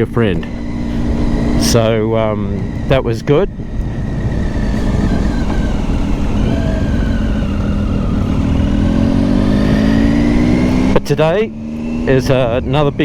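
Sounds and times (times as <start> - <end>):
motorcycle engine running: 0.0 - 13.0
wind rumble: 0.0 - 13.0.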